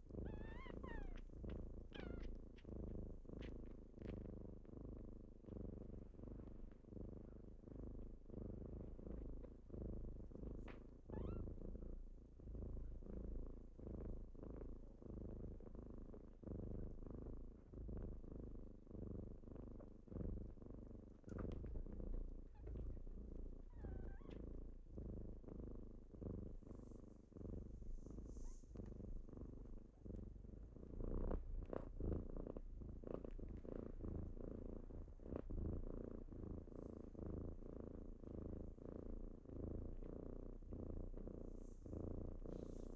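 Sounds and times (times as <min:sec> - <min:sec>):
kitten purring: 0:00.0 - 0:42.9.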